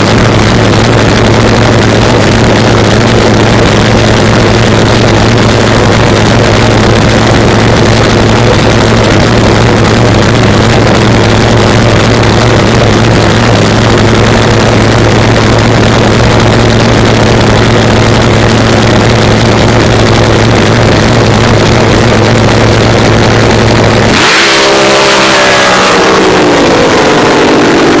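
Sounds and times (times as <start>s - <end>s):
boat engine idling and revving: 0.0s - 28.0s.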